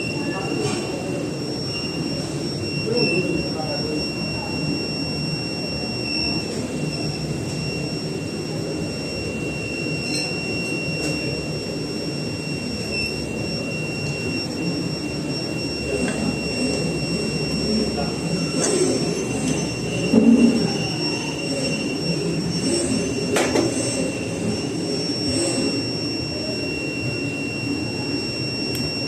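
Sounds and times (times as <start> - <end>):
high-pitched furnace whine: 0.0 - 29.0.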